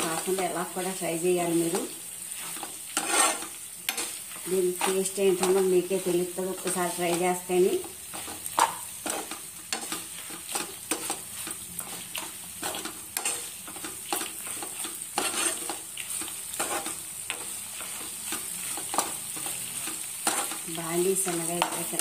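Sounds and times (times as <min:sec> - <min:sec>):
greens sizzling in oil: 0:00.0 - 0:22.0
metal spatula scraping a pan: 0:01.6 - 0:22.0.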